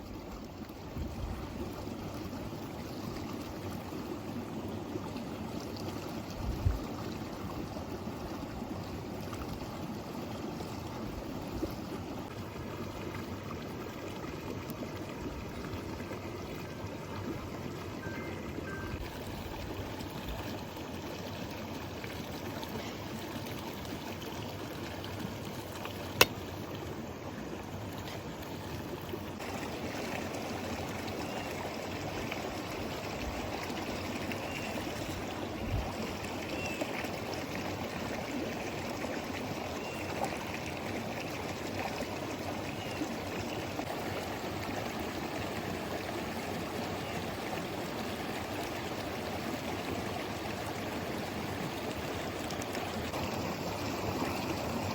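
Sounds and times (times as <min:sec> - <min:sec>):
stream flowing: 0:00.0 - 0:54.9.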